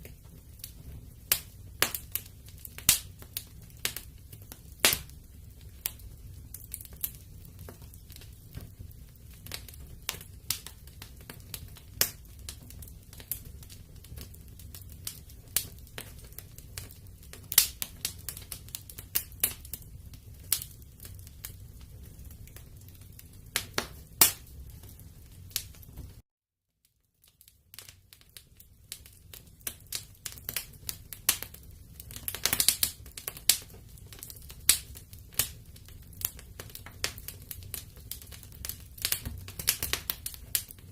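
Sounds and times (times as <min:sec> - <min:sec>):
low rumble of burning: 0:00.0 - 0:26.2, 0:27.2 - 0:40.9
wood fire crackling: 0:00.0 - 0:26.2, 0:26.9 - 0:40.9.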